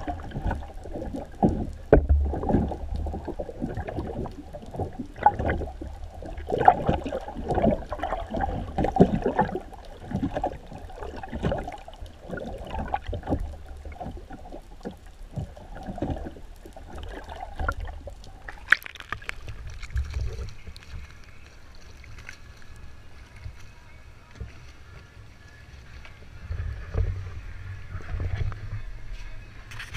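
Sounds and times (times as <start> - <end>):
water splashing: 0.0 - 28.8
muffled underwater sloshing: 0.0 - 29.9.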